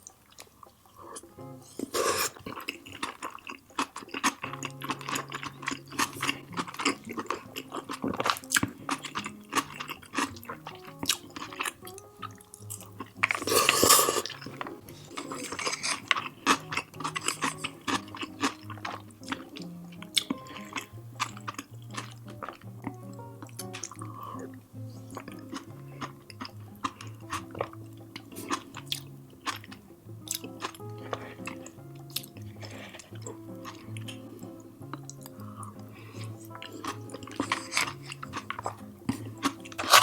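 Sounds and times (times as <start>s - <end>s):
close chewing and mouth sounds: 0.0s - 40.0s
soft background music: 0.5s - 40.0s.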